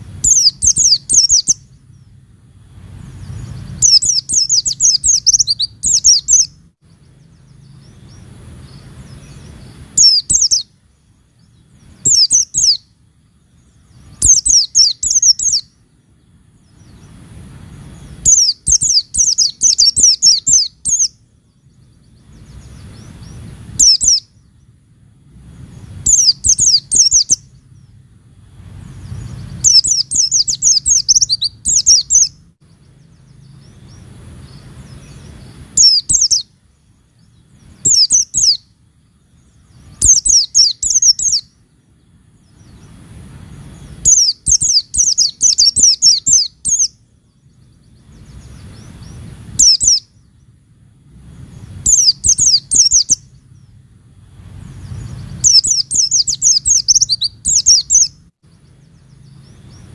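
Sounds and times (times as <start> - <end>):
bird fast high twittering: 0.0 - 41.6, 42.3 - 59.9
faint low rumble: 0.0 - 59.9.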